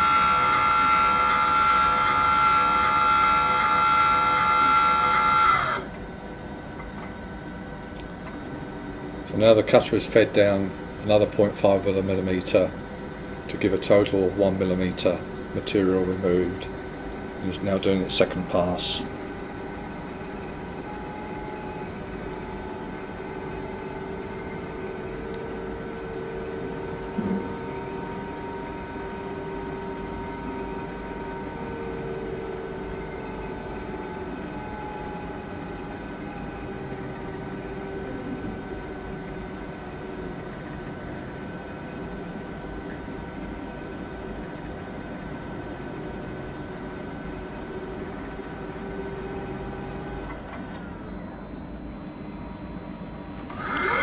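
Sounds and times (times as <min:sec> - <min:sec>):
milling machine humming and whining: 0:00.0 - 0:54.0.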